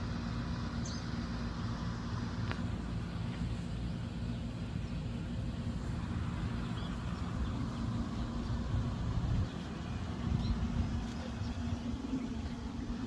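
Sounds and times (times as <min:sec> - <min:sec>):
lawn mower running: 0:00.0 - 0:13.0.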